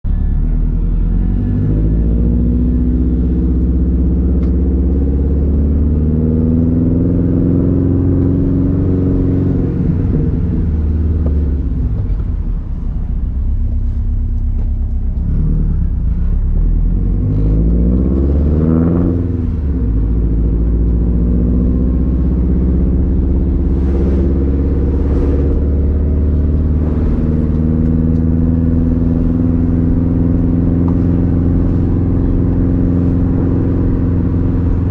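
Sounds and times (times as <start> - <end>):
car engine rumbling while driving: 0.0 - 34.9.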